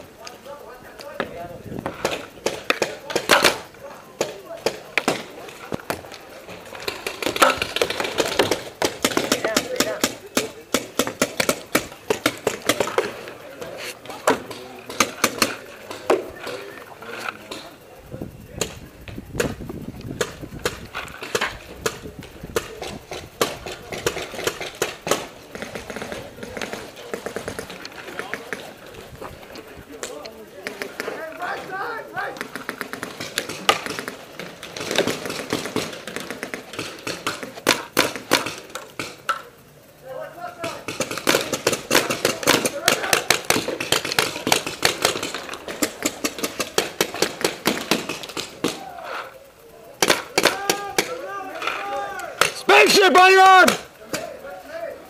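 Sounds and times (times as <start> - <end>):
paintball markers firing: 1.1 - 16.6, 18.6 - 28.7, 32.3 - 39.5, 40.6 - 48.9, 50.0 - 54.4.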